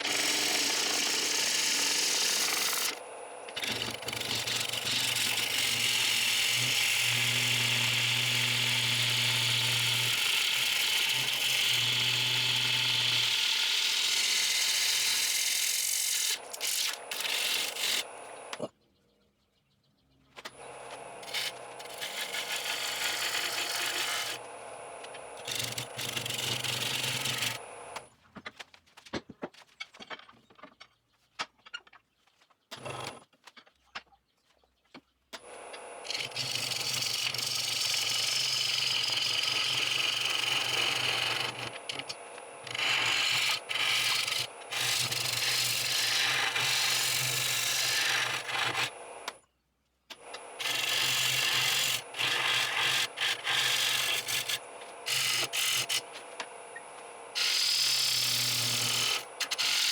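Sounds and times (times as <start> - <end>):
lathe motor hum: 0.0 - 18.6, 20.6 - 28.1, 35.5 - 49.4, 50.2 - 59.9
turning tool cutting wood: 0.0 - 18.7, 20.5 - 28.1, 32.7 - 33.3, 35.4 - 49.4, 50.1 - 59.9.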